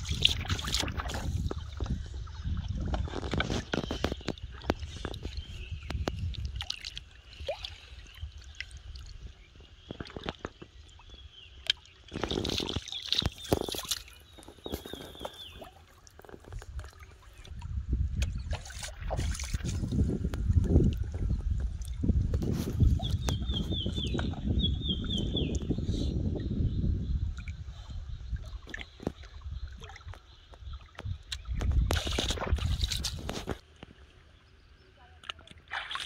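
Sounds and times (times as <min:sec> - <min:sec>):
water sloshing and splashing: 0:00.0 - 0:25.8, 0:27.2 - 0:36.0.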